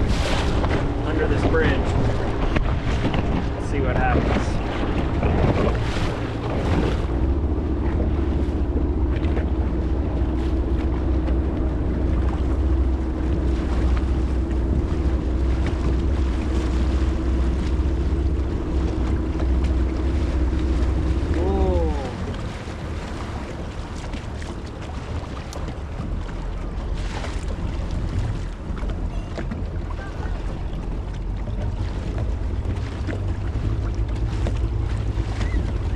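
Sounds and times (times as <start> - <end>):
motorboat engine running: 0.0 - 35.9
wind on microphone: 0.0 - 35.9.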